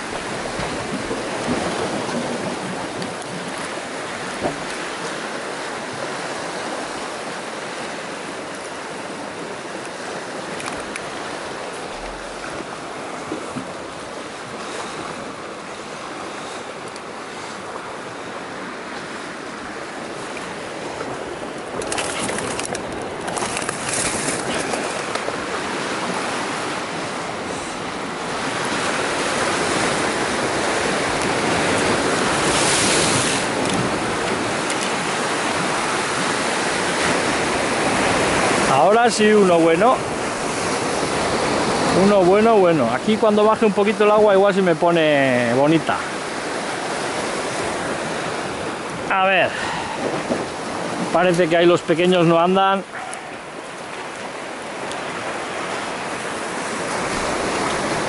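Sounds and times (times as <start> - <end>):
surf washing on rocks: 0.0 - 58.0.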